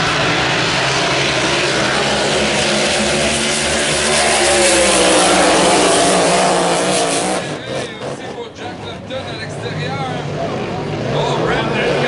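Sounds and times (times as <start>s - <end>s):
racing boat engines roaring: 0.0s - 12.0s.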